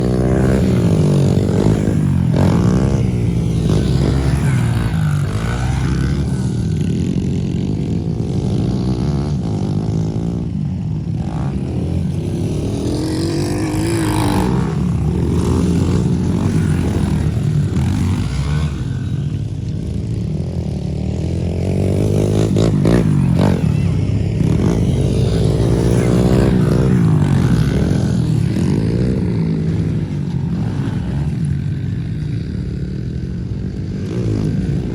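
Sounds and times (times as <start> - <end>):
pit bike engine revving: 0.0 - 10.5, 11.1 - 34.9.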